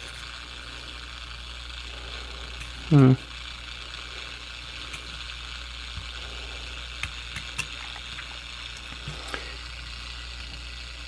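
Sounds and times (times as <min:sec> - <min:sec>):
radio static hiss: 0:00.0 - 0:10.9.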